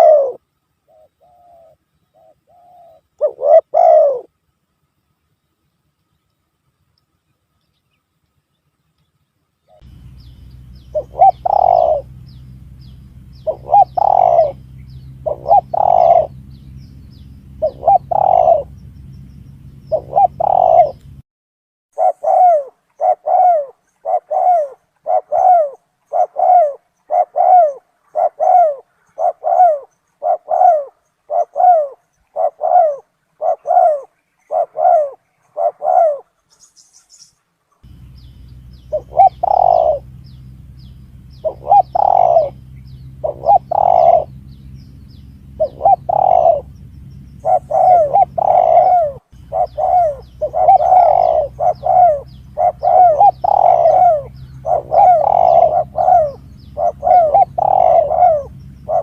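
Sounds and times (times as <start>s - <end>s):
doves cooing: 0.0s - 4.4s, 9.7s - 21.2s, 22.0s - 36.6s, 37.8s - 59.0s
low steady hum: 0.0s - 21.2s, 22.0s - 59.0s.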